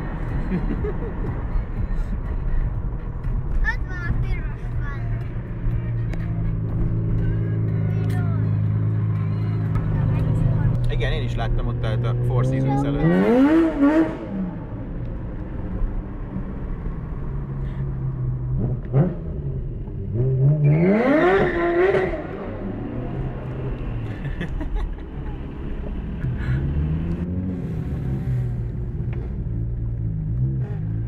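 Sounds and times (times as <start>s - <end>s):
steady engine hum: 0.0s - 31.0s
car engine revving: 3.2s - 31.0s.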